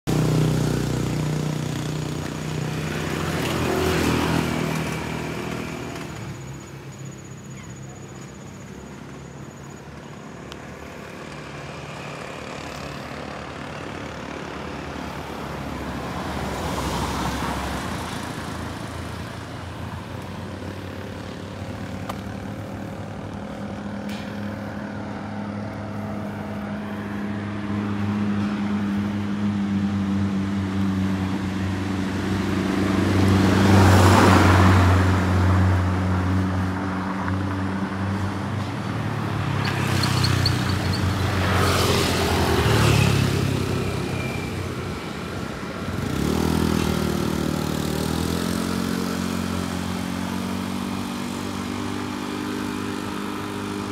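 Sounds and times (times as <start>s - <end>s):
vehicles passing: 0.0s - 53.9s
steady engine hum: 0.1s - 53.9s.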